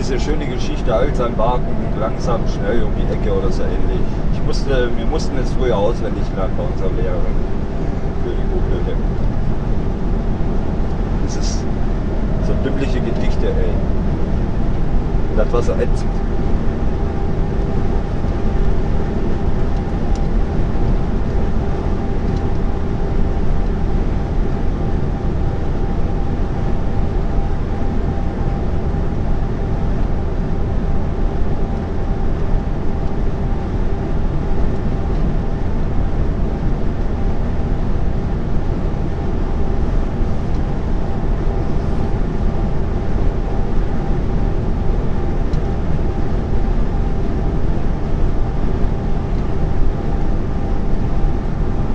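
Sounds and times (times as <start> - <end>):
diesel engine and road drone: 0.0 - 51.9.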